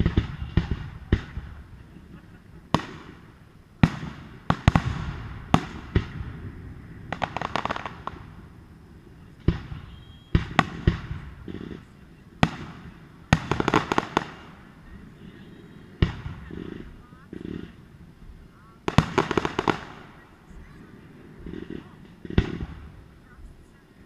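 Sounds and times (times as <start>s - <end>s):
fireworks booming: 0.0s - 24.0s
fireworks crackling: 0.0s - 24.0s.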